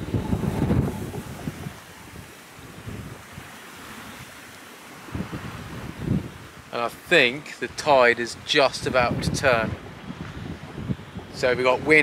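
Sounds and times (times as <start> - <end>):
sea washing against wall: 0.0 - 12.0
wind buffeting microphone: 0.0 - 12.0.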